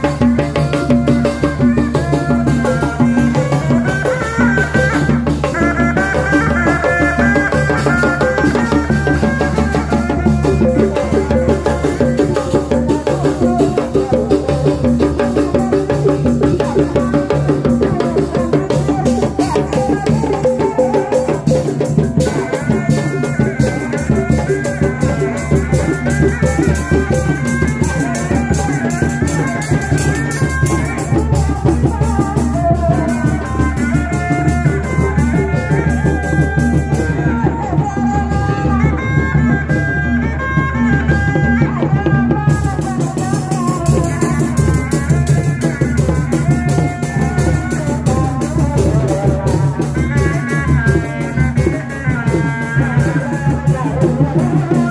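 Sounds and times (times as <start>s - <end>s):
drums in a steady rhythm: 0.0s - 54.9s
large drum beaten with mallets: 0.0s - 54.9s.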